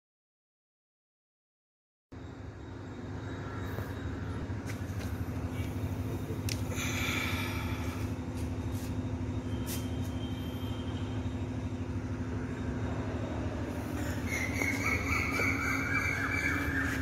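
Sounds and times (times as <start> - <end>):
low mechanical hum: 2.1 - 17.0.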